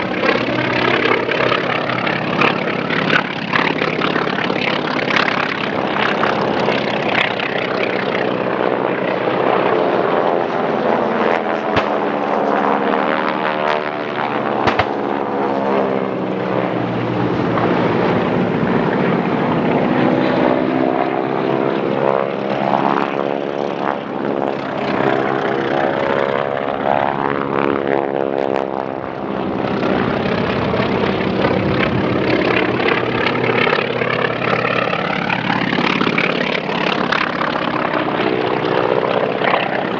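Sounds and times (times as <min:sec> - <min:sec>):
propeller warplanes droning: 0:00.0 - 0:39.9.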